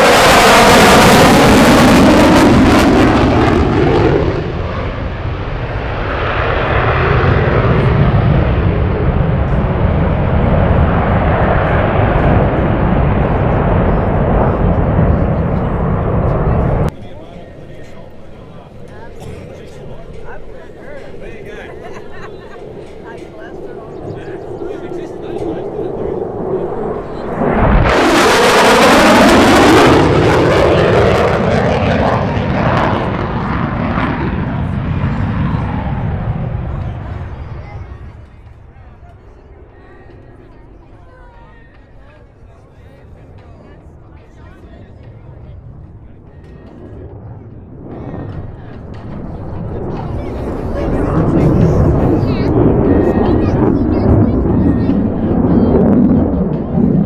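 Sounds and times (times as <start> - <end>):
jet afterburner roar: 0.0 - 40.8, 44.9 - 57.0.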